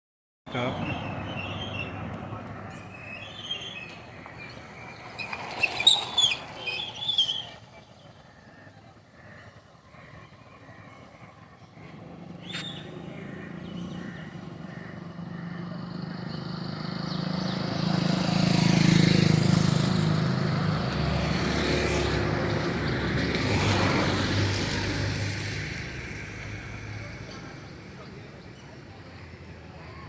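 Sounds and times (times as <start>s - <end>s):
motor vehicles passing: 0.5s - 30.0s.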